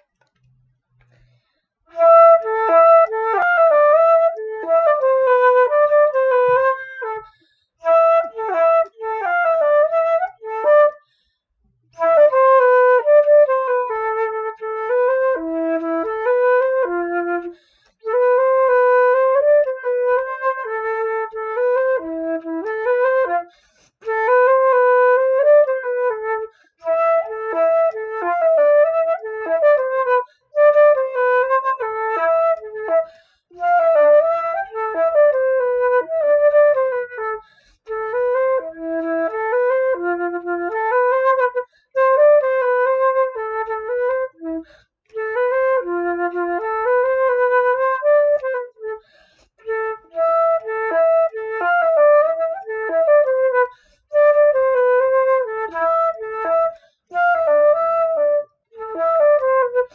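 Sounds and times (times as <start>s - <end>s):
solo flute folk dance melody: 1.0s - 11.2s, 11.9s - 59.9s.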